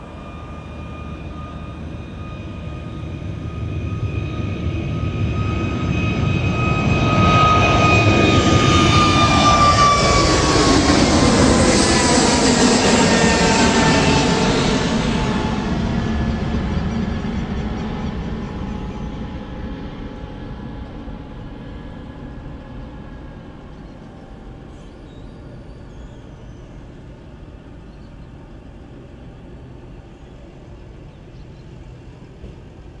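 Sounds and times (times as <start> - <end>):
jet airliner engines roaring: 0.0 - 33.0.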